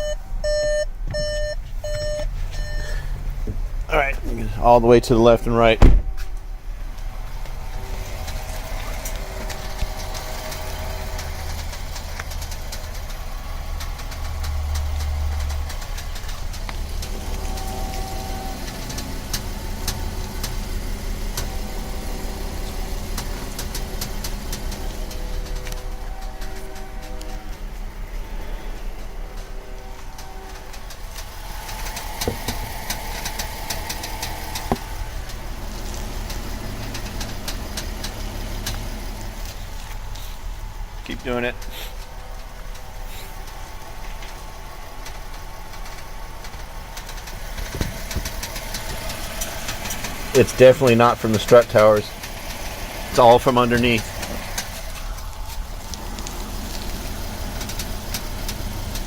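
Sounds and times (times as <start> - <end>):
car engine idling: 0.0 - 59.0
power steering clicks and creaks: 0.0 - 59.0.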